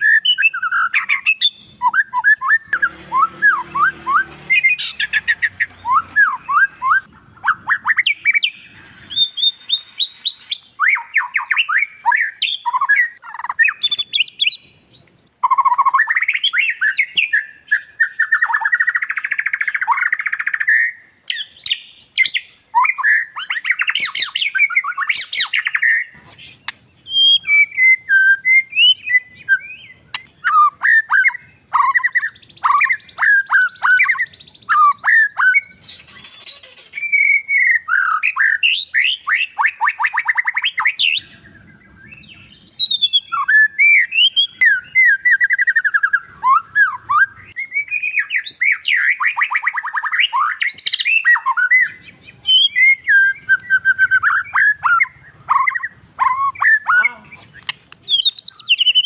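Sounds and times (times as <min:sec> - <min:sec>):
bird singing whistled trills: 0:00.0 - 0:59.0.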